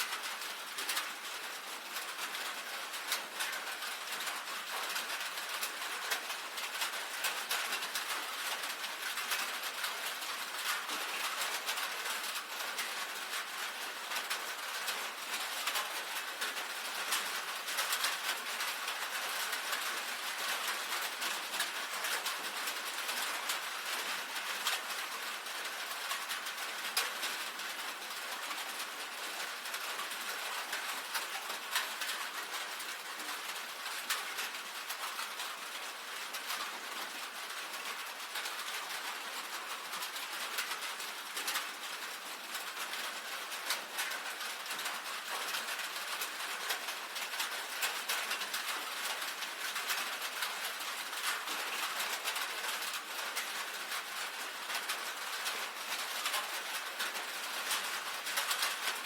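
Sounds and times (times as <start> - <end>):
rain on a tin roof: 0.0 - 59.0.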